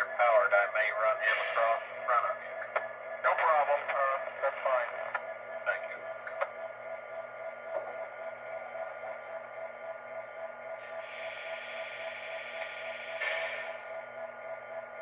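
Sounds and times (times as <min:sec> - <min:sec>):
diesel engine idle drone: 0:00.0 - 0:15.0.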